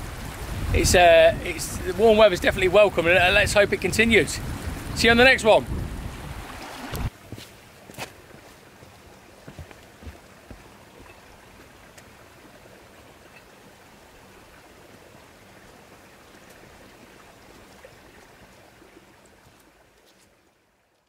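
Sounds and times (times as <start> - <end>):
rushing outdoor noise: 0.0 - 19.7.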